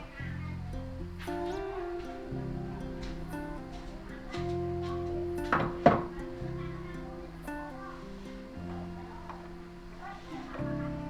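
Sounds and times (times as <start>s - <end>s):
melody of held notes: 0.0s - 11.0s.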